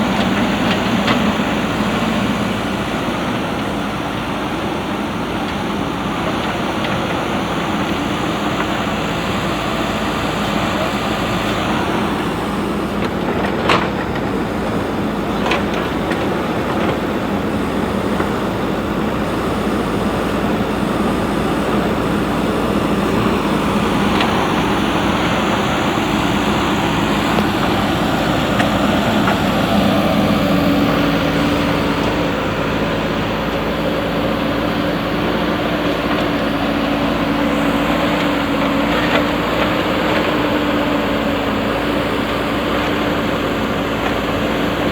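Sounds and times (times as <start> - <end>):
backhoe diesel engine running: 0.0 - 44.9.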